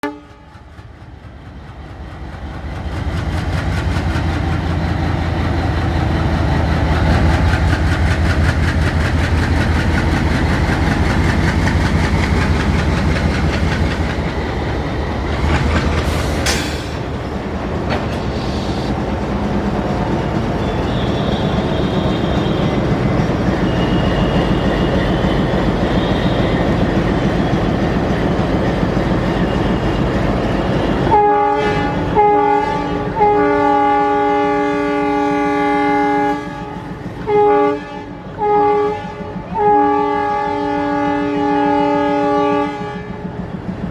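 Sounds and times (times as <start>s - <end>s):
diesel locomotive engine: 0.0s - 43.9s.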